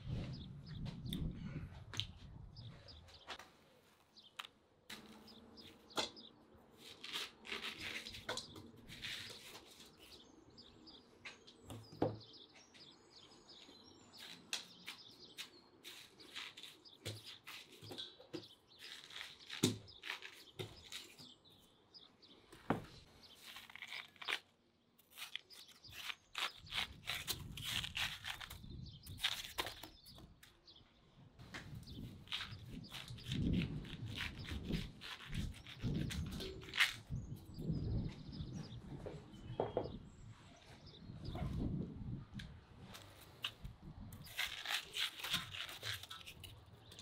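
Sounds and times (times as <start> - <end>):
birds chirping: 0.0 - 7.0, 7.6 - 47.0.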